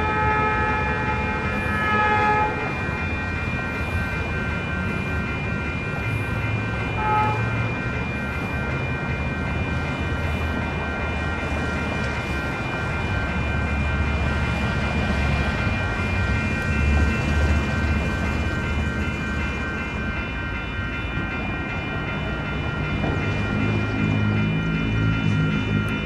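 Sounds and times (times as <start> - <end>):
high-pitched ringing tones: 0.0 - 26.0
train rumbling: 0.0 - 26.0.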